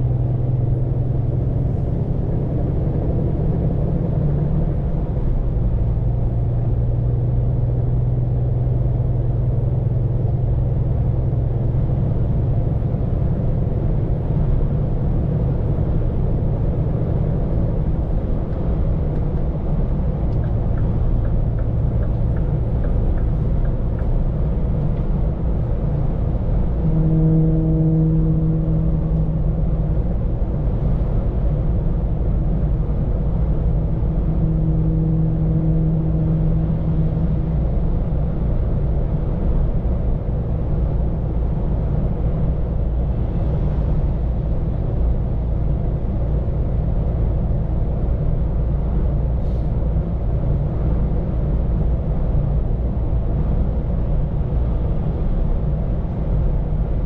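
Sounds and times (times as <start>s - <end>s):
road rumble: 0.0s - 57.0s.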